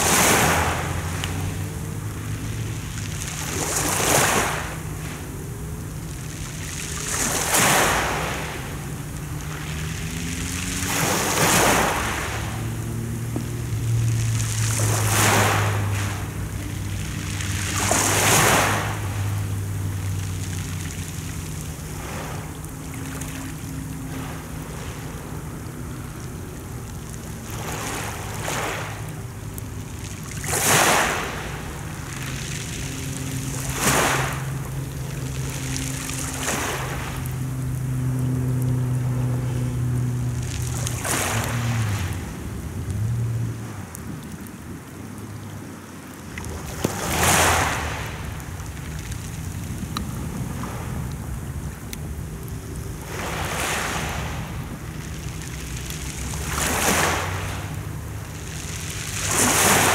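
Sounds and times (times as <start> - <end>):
low steady hum: 0.0 - 59.9
waves washing on pebble beach: 0.0 - 59.9.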